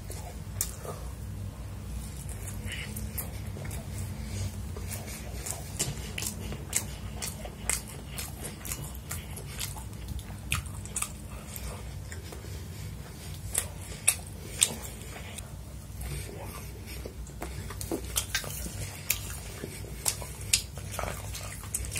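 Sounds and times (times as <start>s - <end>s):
chewing and mouth sounds: 0.0s - 1.2s, 1.9s - 21.9s
low steady hum: 0.0s - 21.9s.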